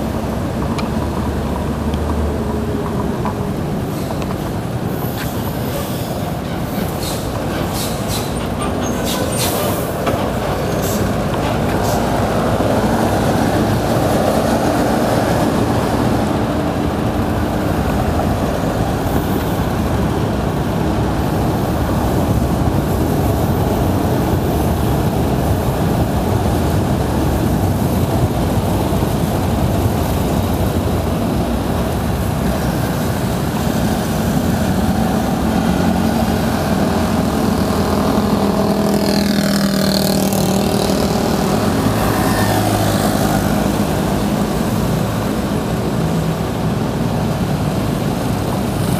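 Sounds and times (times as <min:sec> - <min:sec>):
road noise: 0:00.0 - 0:48.9.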